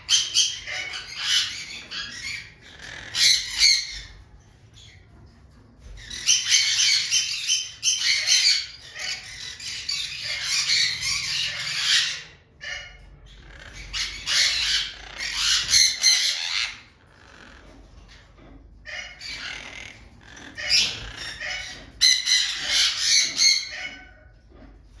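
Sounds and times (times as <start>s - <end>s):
birds calling harshly: 0.0s - 5.1s, 5.8s - 25.0s.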